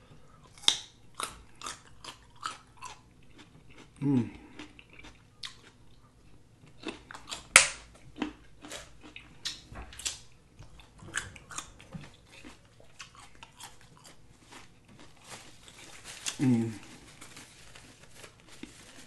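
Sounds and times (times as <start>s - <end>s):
crunching and chewing carrot: 0.0s - 19.0s.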